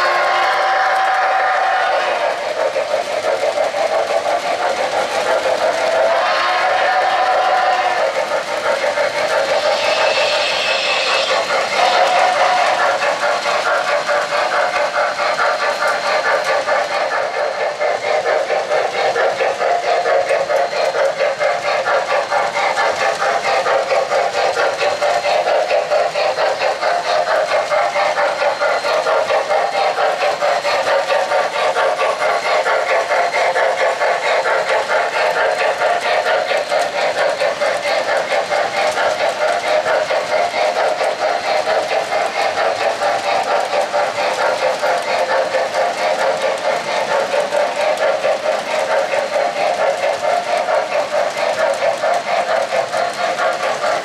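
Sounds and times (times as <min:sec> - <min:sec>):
model train rolling and clattering: 0:00.0 - 0:54.0.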